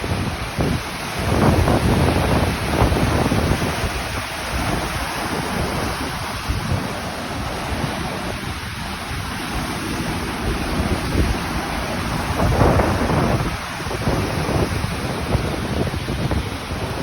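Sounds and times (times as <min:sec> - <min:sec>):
choppy lake water rushing: 0:00.0 - 0:17.0
wind buffeting microphone: 0:00.0 - 0:17.0.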